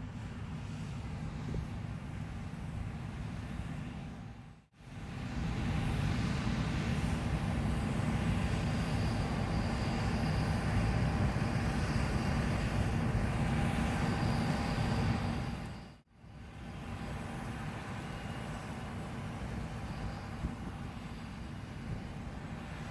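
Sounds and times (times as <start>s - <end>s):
combine harvester engine drone: 0.0s - 22.9s
faint steady whine: 0.0s - 22.9s.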